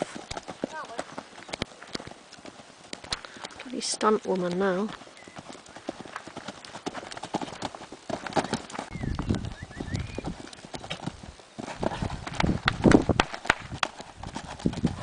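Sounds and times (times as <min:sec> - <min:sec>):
pony hooves beating on ground: 0:00.0 - 0:15.0.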